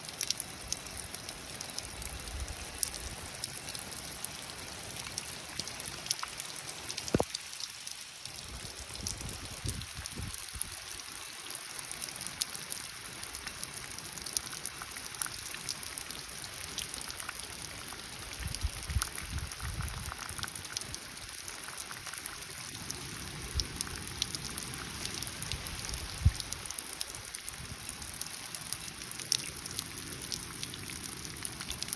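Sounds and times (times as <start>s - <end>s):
light rain pattering: 0.0s - 31.9s.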